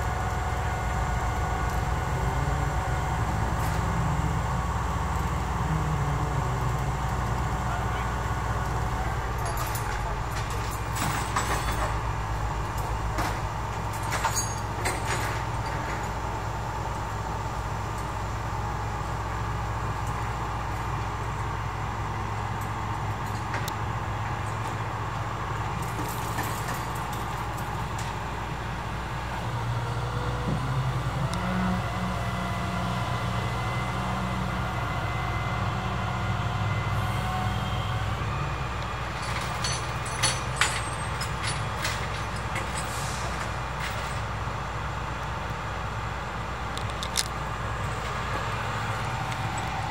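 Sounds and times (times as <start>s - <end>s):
idling engines and street traffic: 0.0s - 49.9s.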